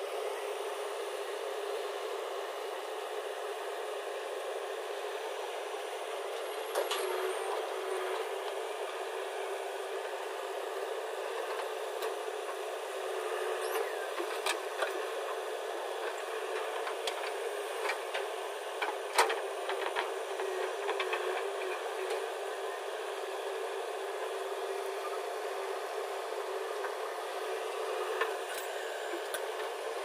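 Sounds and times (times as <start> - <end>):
construction machinery running: 0.0 - 30.0.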